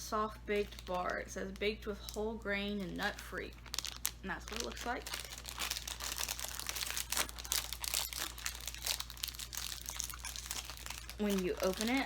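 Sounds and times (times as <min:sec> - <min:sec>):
plastic wrapper crinkling: 0:00.2 - 0:12.0.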